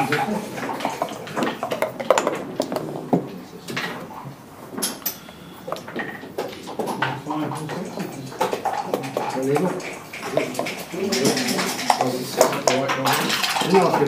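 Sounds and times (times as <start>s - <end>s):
background talk: 0.0s - 4.5s, 6.5s - 14.0s.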